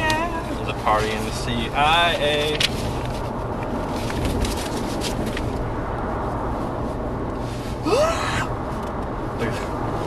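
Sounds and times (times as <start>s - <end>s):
truck road and engine rumble: 0.0s - 10.0s.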